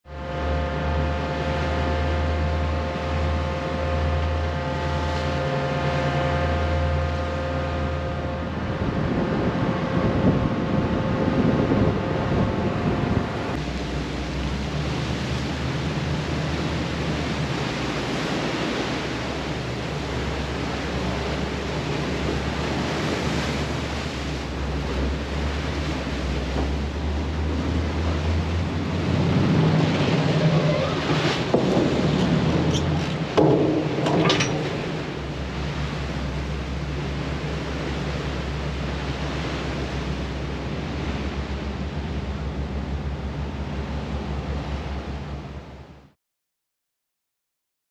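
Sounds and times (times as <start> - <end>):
boat engines droning: 0.0 - 46.2
water rushing and splashing: 0.0 - 46.2.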